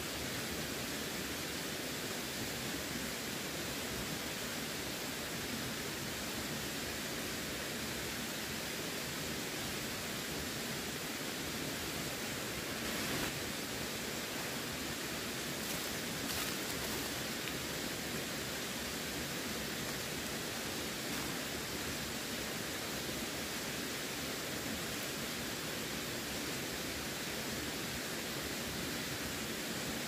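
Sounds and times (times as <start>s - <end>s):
flowing water rushing: 0.1s - 30.0s.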